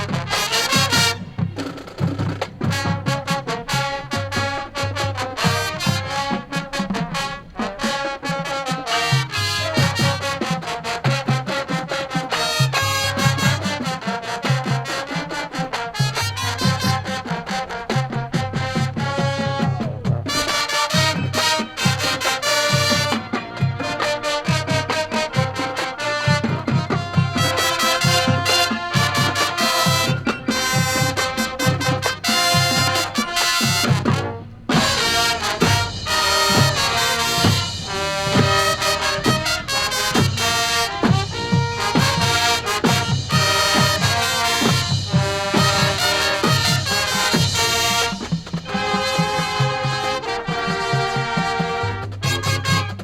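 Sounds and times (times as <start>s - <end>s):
brass chords: 0.0s - 53.0s
drum beats: 0.0s - 53.0s.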